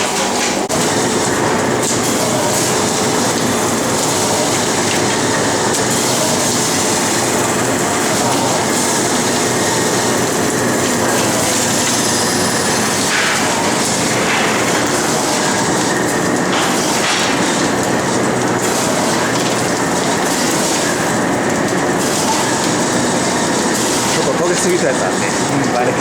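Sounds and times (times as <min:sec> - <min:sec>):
machine mechanical clatter: 0:00.0 - 0:26.0.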